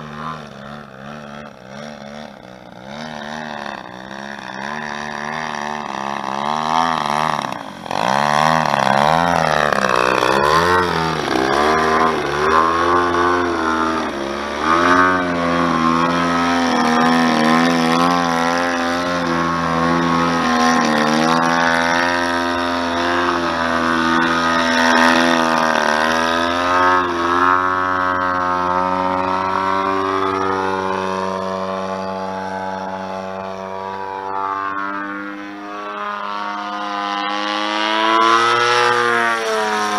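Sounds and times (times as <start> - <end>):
model plane engine droning: 0.0 - 39.9.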